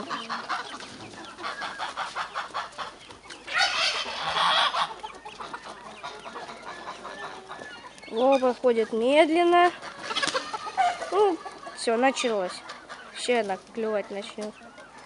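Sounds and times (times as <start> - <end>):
young turkeys clucking: 0.0 - 15.0.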